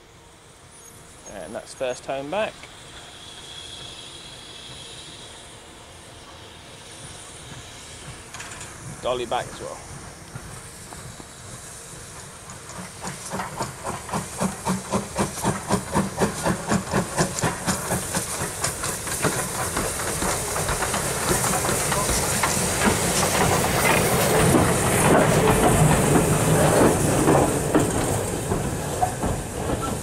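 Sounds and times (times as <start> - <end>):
steam hissing: 0.4 - 30.0
steam locomotive exhaust beats: 0.4 - 30.0.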